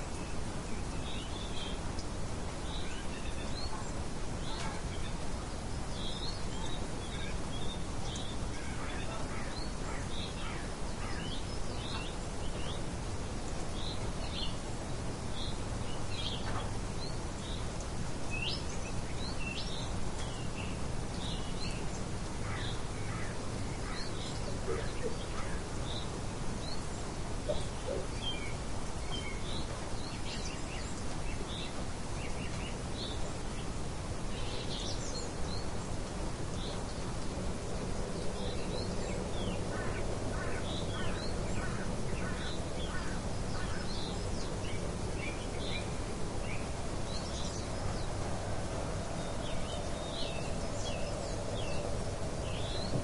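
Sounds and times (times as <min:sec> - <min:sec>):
wind-like rushing noise: 0:00.0 - 0:53.0
birds chirping: 0:00.1 - 0:53.0.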